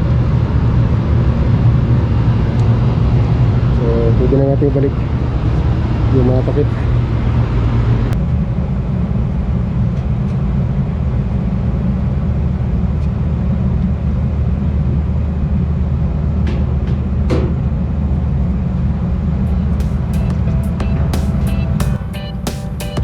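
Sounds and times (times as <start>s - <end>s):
air conditioner drone: 0.0s - 23.0s.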